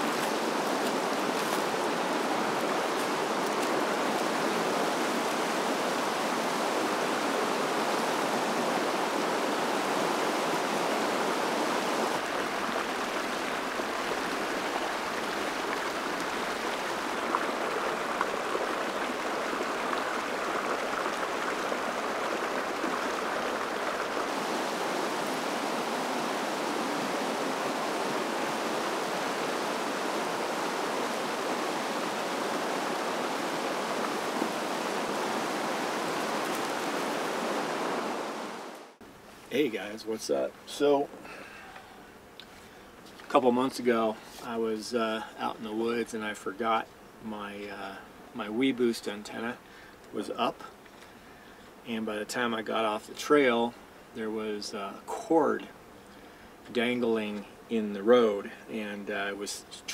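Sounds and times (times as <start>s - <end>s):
creek water flowing: 0.0s - 59.9s.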